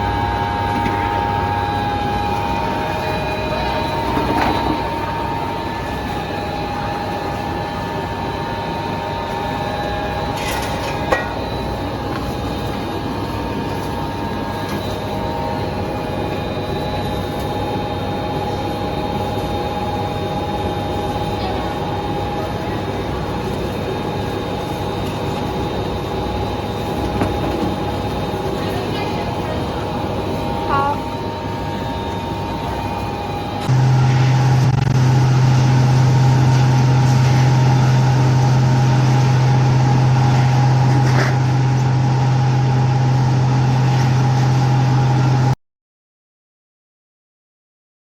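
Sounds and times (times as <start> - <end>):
machine droning and whining: 0.0 - 45.6.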